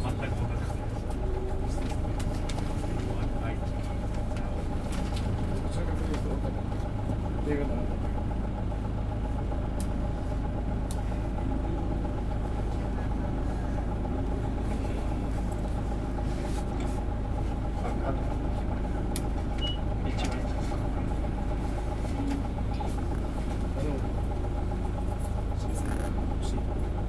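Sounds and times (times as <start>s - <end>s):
bus diesel engine droning: 0.0s - 27.0s.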